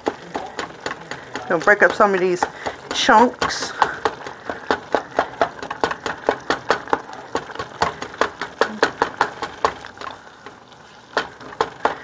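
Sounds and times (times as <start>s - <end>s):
utensil chopping in frying pan: 0.0s - 12.0s.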